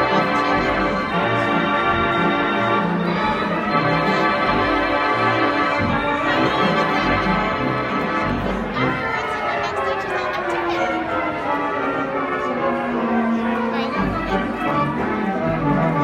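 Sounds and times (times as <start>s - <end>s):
pipe organ playing chords: 0.0s - 16.0s.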